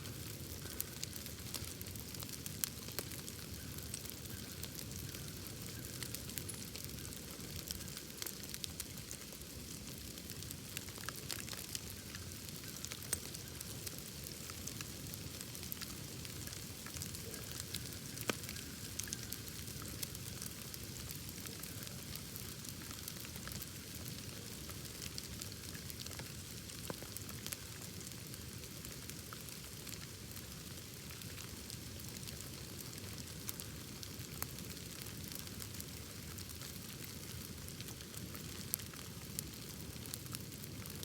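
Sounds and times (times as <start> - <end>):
bonfire crackling: 0.0 - 41.0
fire popping: 0.0 - 41.0.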